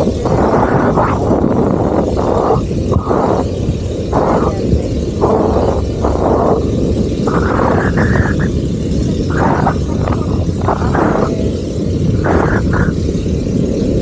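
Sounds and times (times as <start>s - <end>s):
heavy wind noise on microphone: 0.0s - 14.0s.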